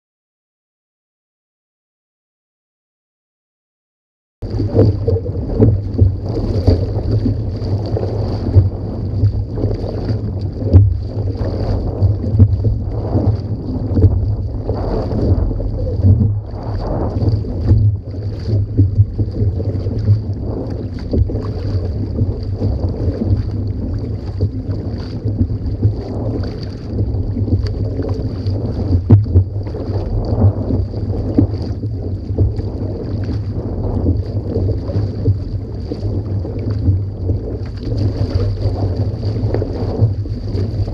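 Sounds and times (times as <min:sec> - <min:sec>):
paddle stroke splashes: 0:04.4 - 0:40.9
water splashing along kayak hull: 0:04.4 - 0:40.9
wind buffeting microphone: 0:04.4 - 0:40.9.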